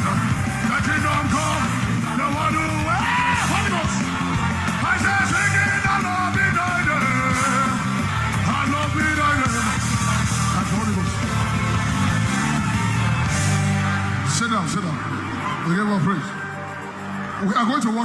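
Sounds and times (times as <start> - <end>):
voices singing and shouting: 0.0 - 16.2.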